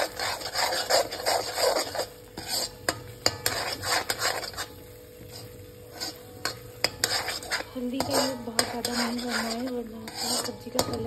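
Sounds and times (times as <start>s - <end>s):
metal spatula scraping a pan: 0.0s - 11.0s.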